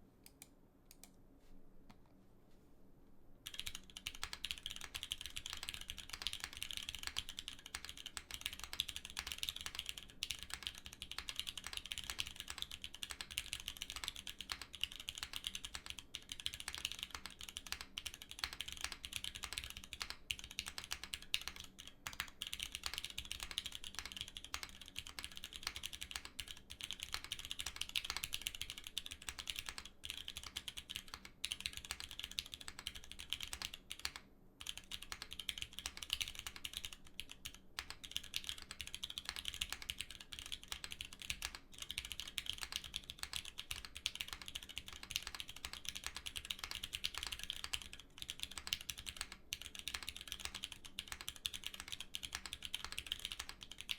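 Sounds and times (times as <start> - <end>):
fast typing on mechanical keyboard: 3.5 - 53.9.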